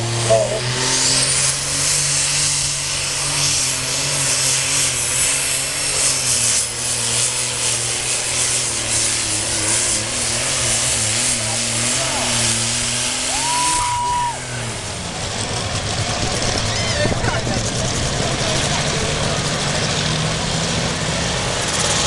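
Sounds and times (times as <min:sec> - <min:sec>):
turbo whine: 0:00.0 - 0:20.0
diesel engine at full power: 0:00.0 - 0:22.0.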